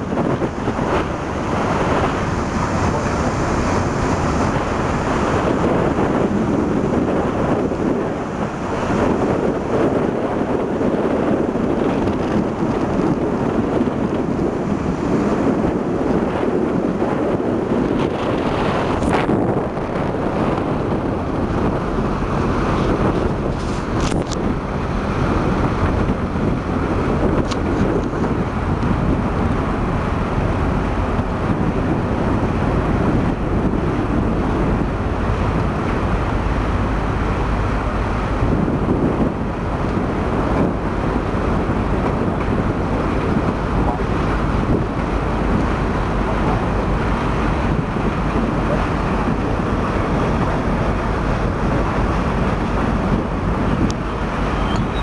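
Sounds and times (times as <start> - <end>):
ferry engines droning: 0.0 - 55.0
rushing water: 0.0 - 55.0
wind buffeting microphone: 0.0 - 55.0.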